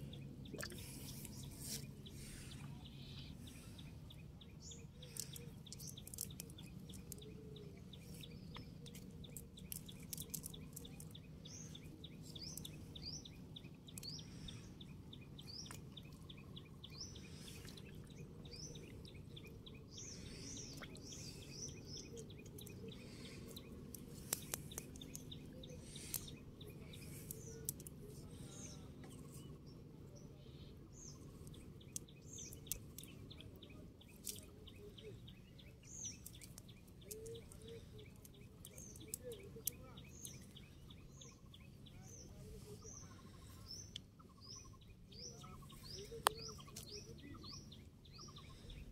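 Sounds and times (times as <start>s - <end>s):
low outdoor rumble: 0.0s - 48.9s
small bird chirping: 0.0s - 48.9s.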